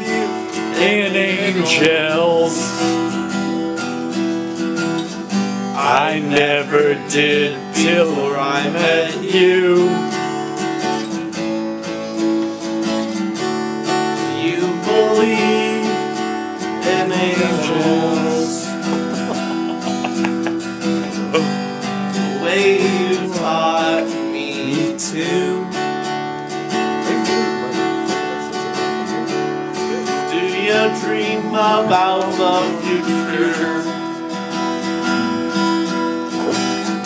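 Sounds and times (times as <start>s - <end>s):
voices singing: 0.0s - 3.8s, 5.7s - 10.9s, 14.0s - 26.2s, 26.8s - 37.0s
acoustic guitar strumming: 0.0s - 37.0s.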